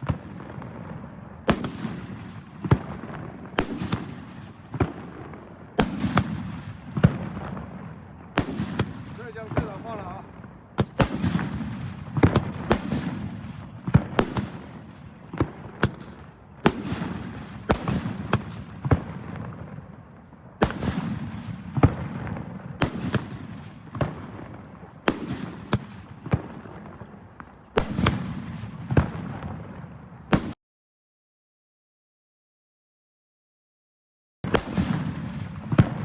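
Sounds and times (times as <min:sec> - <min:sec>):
firework bangs: 0:00.0 - 0:30.6, 0:34.4 - 0:36.0
firework crackle: 0:00.0 - 0:30.6, 0:34.5 - 0:36.0.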